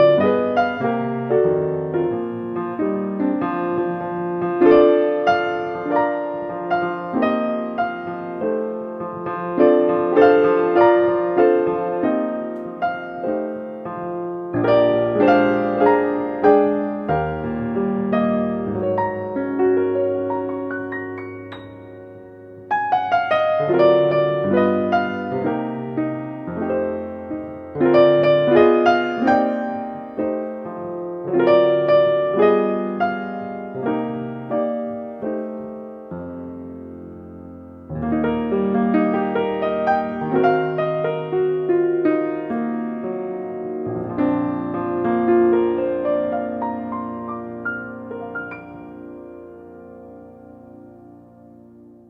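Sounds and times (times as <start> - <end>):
solo piano melody: 0.0 - 52.0.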